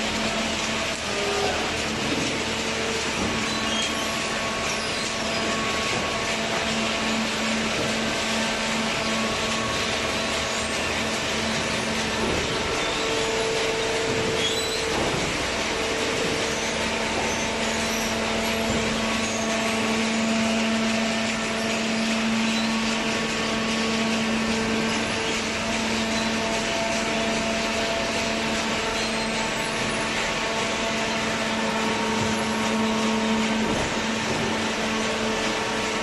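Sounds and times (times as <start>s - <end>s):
baler motor and pump humming: 0.0s - 36.0s.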